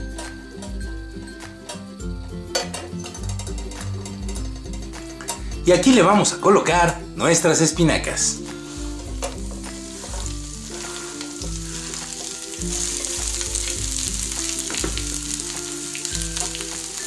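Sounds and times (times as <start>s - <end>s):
spinach sizzling in oil: 2.5s - 17.0s.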